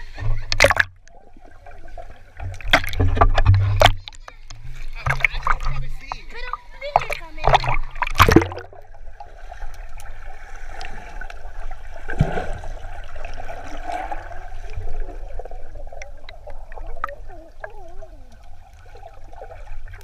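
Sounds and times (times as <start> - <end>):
water sloshing and trickling: 0.0 - 20.0.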